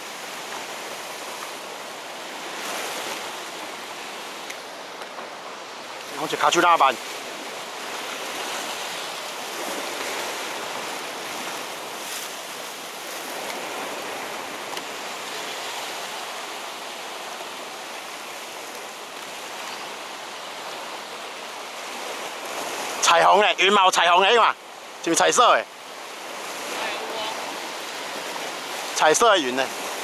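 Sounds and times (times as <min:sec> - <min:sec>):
sea surf washing: 0:00.0 - 0:30.0
wind: 0:00.0 - 0:30.0.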